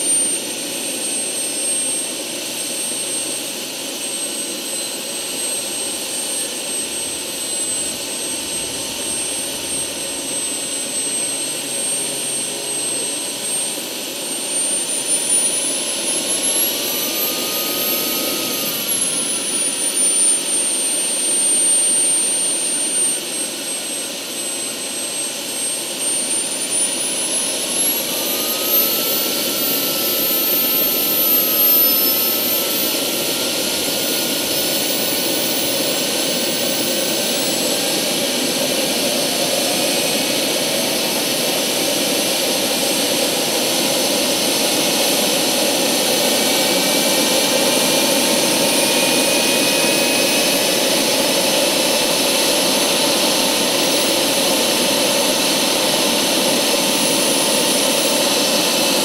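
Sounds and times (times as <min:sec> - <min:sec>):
model helicopter turbine engine: 0:00.0 - 0:59.0.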